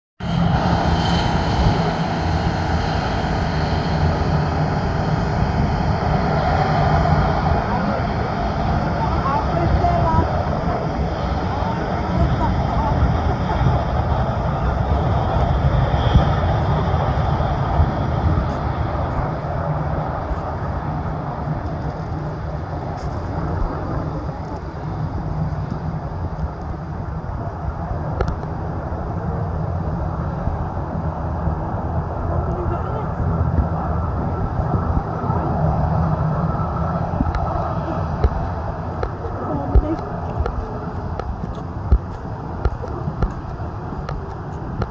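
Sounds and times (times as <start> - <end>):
jet engines running: 0.2 - 44.9.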